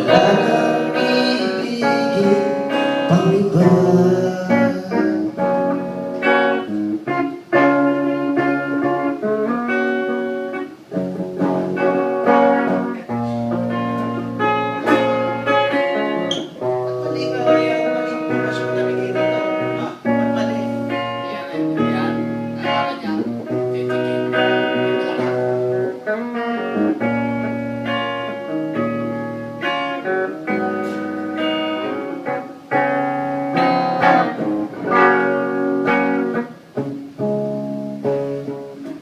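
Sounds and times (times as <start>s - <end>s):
guitar: 0.0s - 39.0s
live band playing a ballad: 0.0s - 39.0s.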